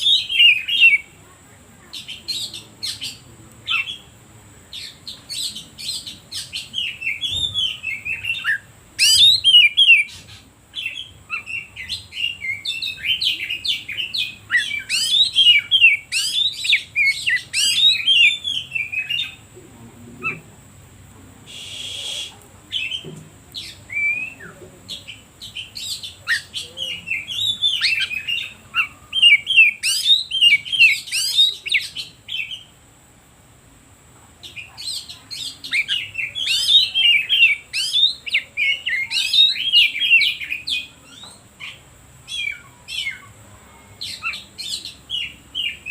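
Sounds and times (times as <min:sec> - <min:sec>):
songbird whistling and chattering: 0:00.0 - 0:01.2, 0:01.9 - 0:04.1, 0:04.7 - 0:19.5, 0:20.2 - 0:20.5, 0:21.5 - 0:32.7, 0:34.4 - 0:43.4, 0:44.0 - 0:45.9.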